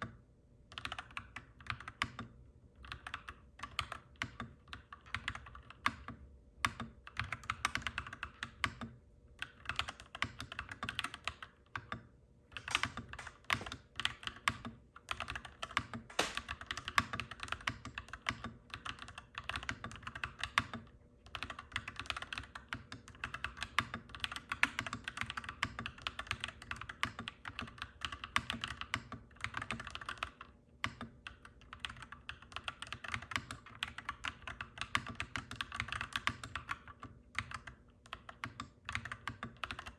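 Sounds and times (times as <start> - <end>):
mechanical keyboard typing: 0.7 - 2.3, 6.7 - 12.0, 12.6 - 39.9.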